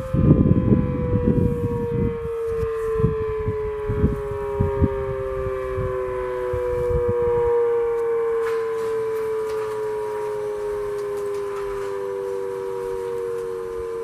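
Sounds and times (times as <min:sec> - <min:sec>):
fire siren: 0:00.0 - 0:14.0.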